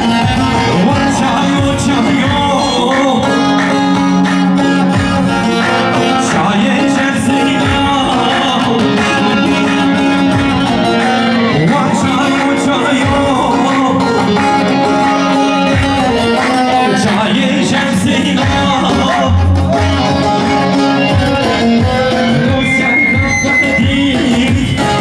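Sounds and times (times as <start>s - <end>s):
dance music with singing: 0.0s - 25.0s.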